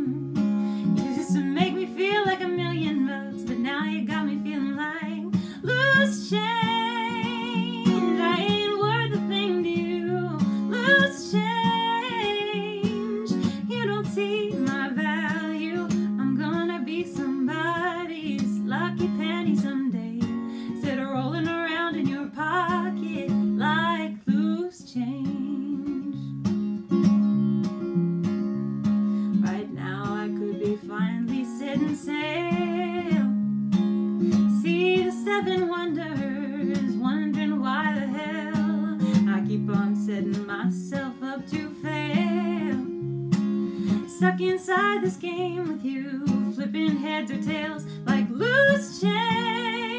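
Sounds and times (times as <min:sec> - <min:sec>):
woman singing: 0:00.0 - 0:26.4, 0:29.3 - 0:33.5, 0:34.2 - 0:49.9
acoustic guitar: 0:00.0 - 0:49.9.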